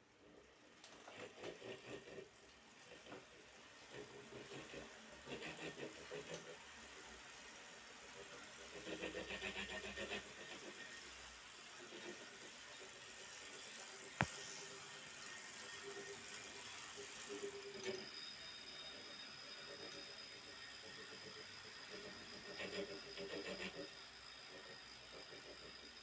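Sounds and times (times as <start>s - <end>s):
bike trainer running: 0.2s - 26.0s
bike trainer rhythmic pulsing: 0.5s - 26.0s.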